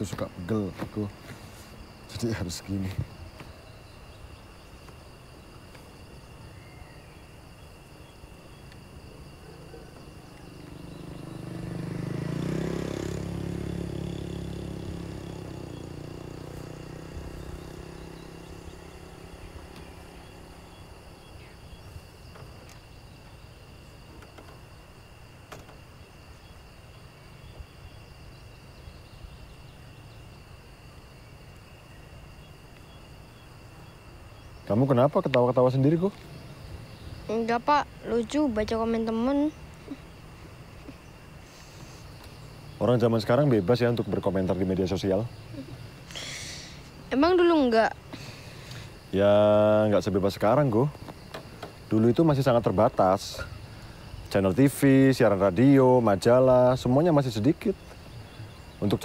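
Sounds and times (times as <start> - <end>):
faint outdoor hiss: 0.0 - 59.0
insect chirring: 0.0 - 59.0.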